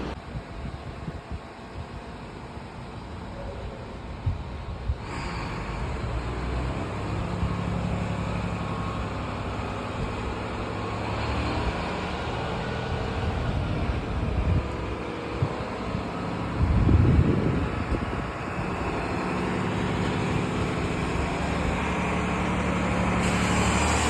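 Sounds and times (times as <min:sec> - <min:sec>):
diesel bus engine humming: 0:00.0 - 0:24.0.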